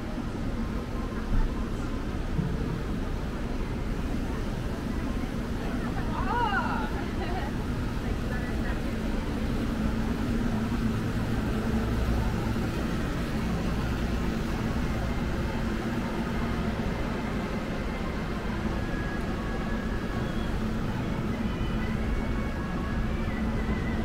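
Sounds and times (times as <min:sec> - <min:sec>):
constant hum: 0:00.0 - 0:24.0
rumble of vehicle traffic: 0:00.0 - 0:24.0.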